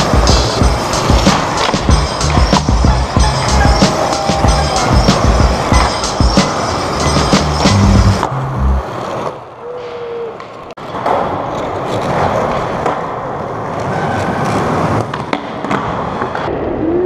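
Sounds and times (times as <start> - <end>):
skateboard wheels rolling on concrete: 0.0 - 16.9.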